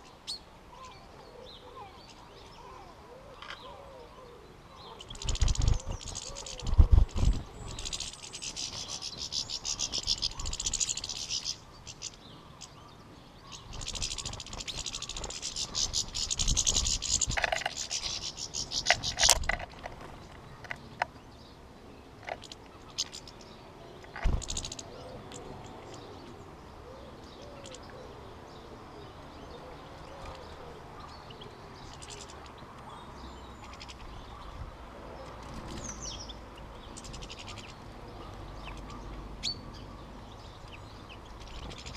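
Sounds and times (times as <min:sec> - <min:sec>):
goldfinches twittering: 0:04.7 - 0:21.6, 0:22.2 - 0:41.9.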